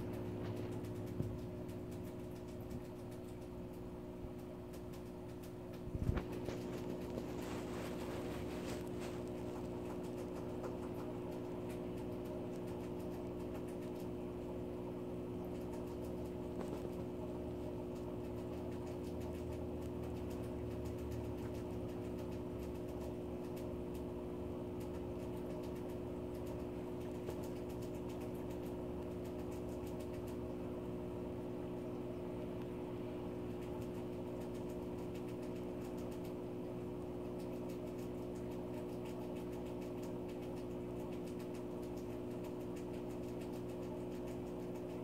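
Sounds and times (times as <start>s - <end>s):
faint ticks and clicks: 0.0s - 45.0s
steady low hum: 0.0s - 45.0s.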